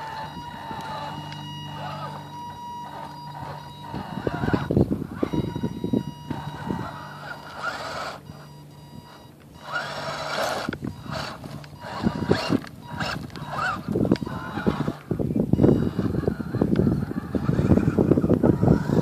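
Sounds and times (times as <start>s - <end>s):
model car motor and gears whining: 0.0s - 19.0s
tyres crunching in loose dirt: 0.0s - 19.0s.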